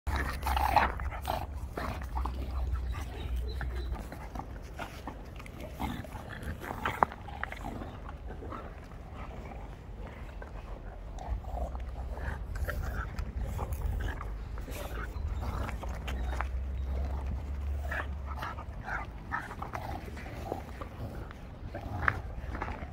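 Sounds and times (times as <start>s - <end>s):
puppies play-fighting: 0.1s - 22.9s.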